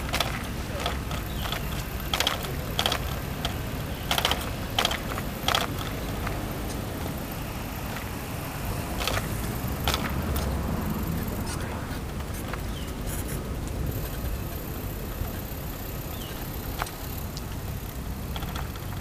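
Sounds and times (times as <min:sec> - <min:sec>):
bicycle clicking and rattling: 0:00.0 - 0:19.0.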